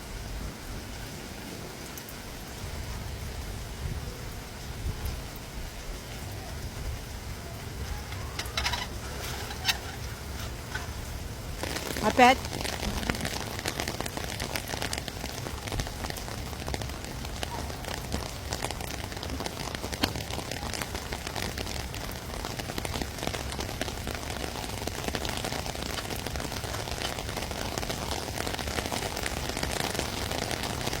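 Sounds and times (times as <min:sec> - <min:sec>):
heavy rain on hard surfaces: 0:00.0 - 0:31.0.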